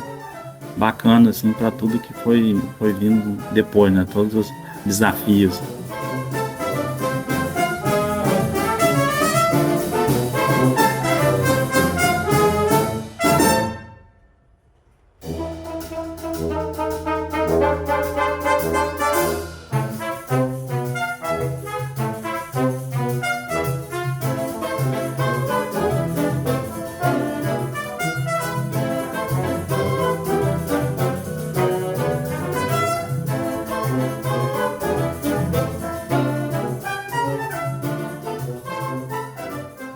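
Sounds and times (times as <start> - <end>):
brass wind band playing: 0.0 - 14.1, 15.2 - 39.9.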